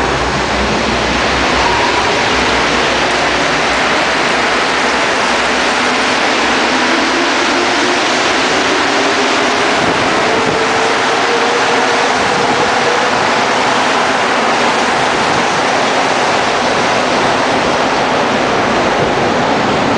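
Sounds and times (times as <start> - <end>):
metro train rushing past: 0.0 - 19.9.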